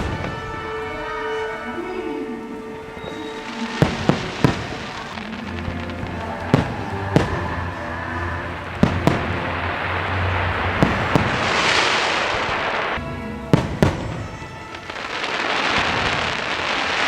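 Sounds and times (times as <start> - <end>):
fireworks bursting: 0.0 - 1.7, 2.3 - 17.0
hissing swell: 0.0 - 17.0.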